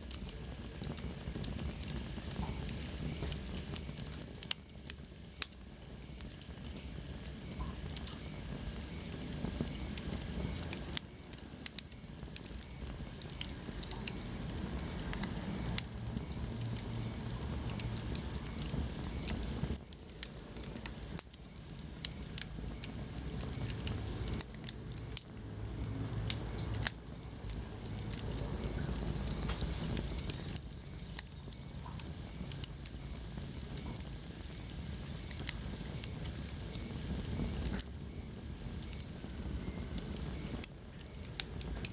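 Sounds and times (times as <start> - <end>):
low rumble of flames: 0.0 - 41.9
wood fire crackling and popping: 0.0 - 41.9.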